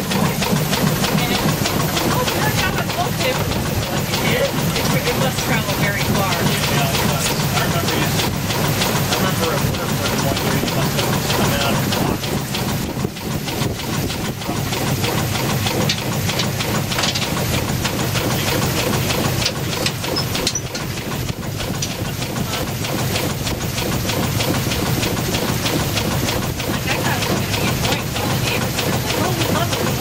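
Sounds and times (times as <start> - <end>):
steam engine clattering: 0.0 - 30.0
steam hissing: 0.0 - 30.0.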